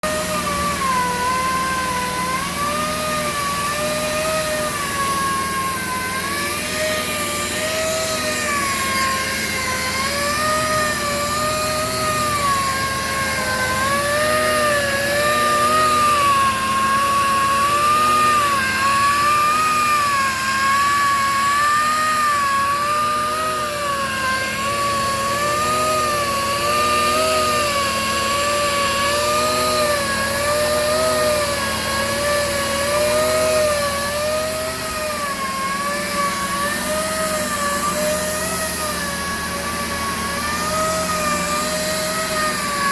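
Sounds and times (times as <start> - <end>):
grinding machine motor whine: 0.0 - 42.9.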